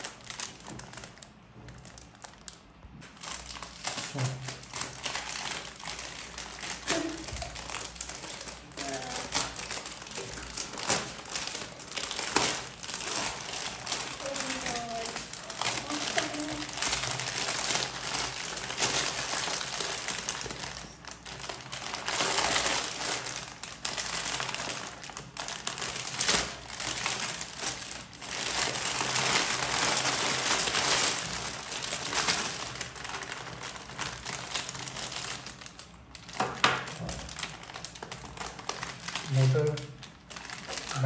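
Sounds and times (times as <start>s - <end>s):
plastic bag crinkling: 0.0s - 41.0s.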